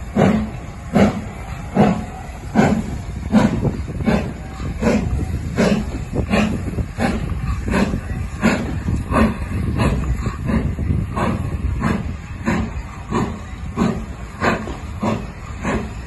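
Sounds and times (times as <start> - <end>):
steam locomotive chuffing: 0.0 - 16.0
train rumble: 0.0 - 16.0.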